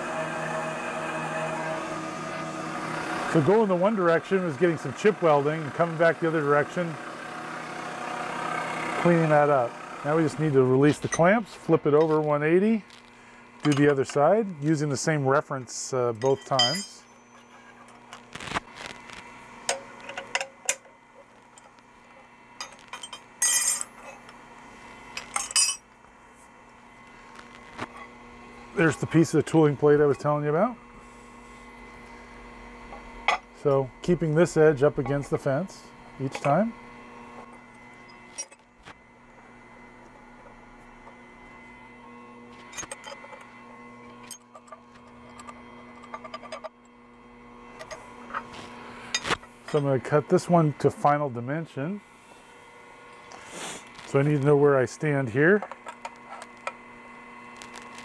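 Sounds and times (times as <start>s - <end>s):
faint steady hum: 9.0s - 58.0s.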